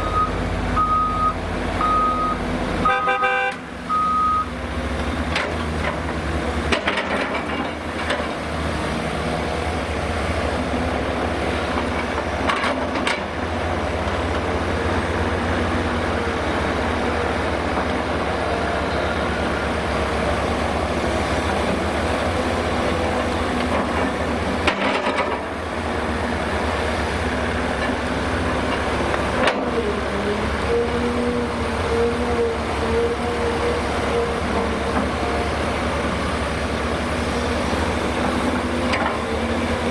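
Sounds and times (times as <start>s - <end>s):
diesel machinery running: 0.0s - 39.9s.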